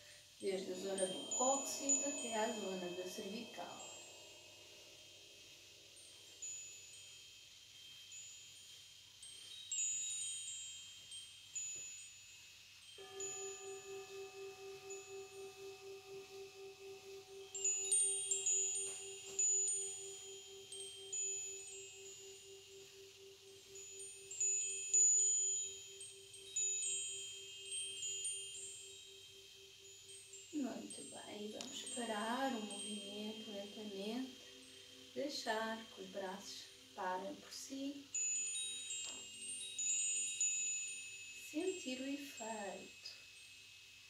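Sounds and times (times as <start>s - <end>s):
metallic chimes ringing: 0.0s - 44.0s.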